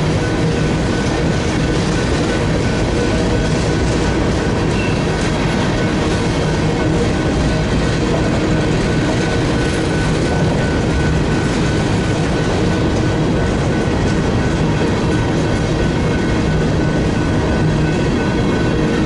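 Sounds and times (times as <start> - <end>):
steel train wheels rumbling on rails: 0.0 - 19.0.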